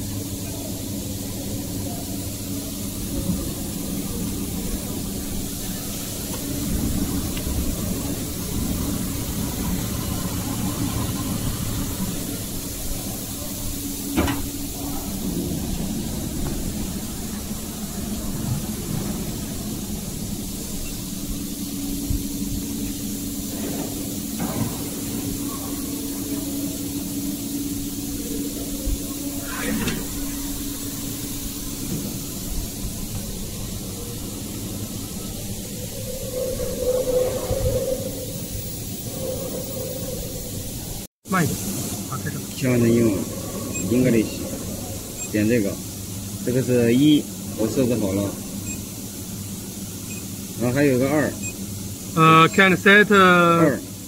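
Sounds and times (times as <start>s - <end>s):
cooling fans humming and hissing: 0.0s - 54.0s.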